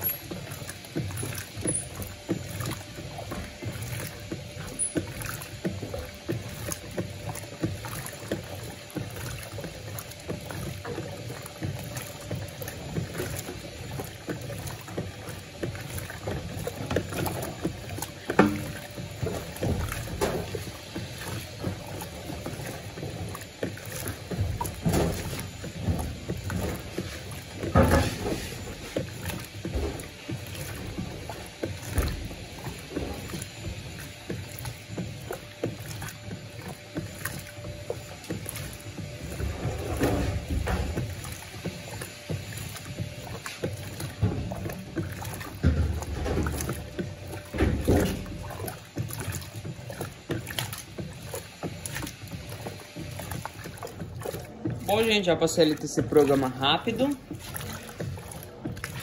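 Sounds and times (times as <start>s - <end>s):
washing machine sloshing water: 0.0s - 59.0s.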